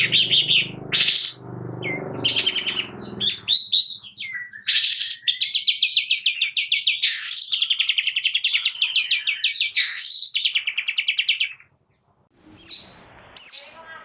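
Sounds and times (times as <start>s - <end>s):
bird chattering song: 0.0s - 11.7s, 12.6s - 14.0s
harsh rasping bird calls: 0.0s - 11.7s.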